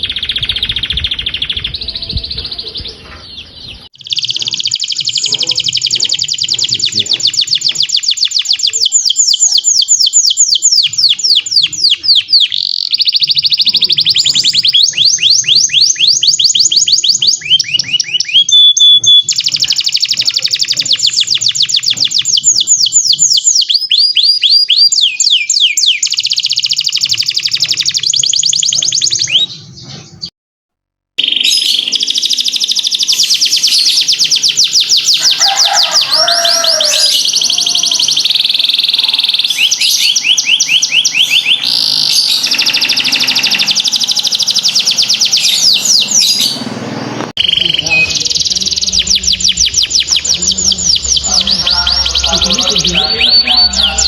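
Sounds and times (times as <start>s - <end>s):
canary singing trills: 0.0s - 30.3s, 31.2s - 54.0s.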